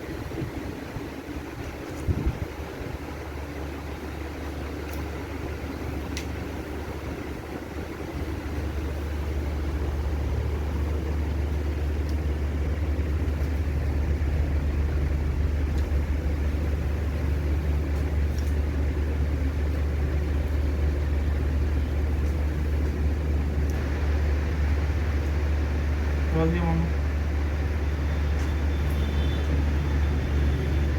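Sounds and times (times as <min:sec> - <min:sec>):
low mechanical hum: 0:00.0 - 0:30.9.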